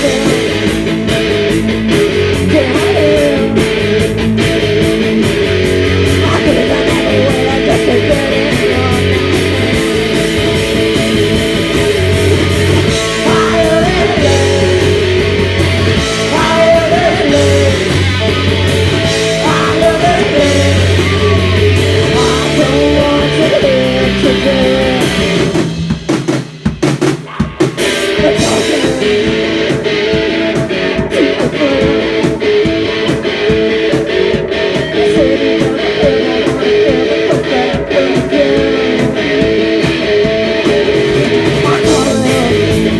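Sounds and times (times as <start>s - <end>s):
rock band playing live: 0.0s - 42.9s.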